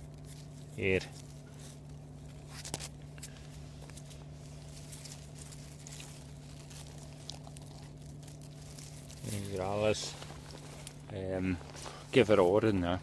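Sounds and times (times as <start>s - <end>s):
rustling leaves: 0.0s - 13.0s
steady low hum: 0.0s - 13.0s.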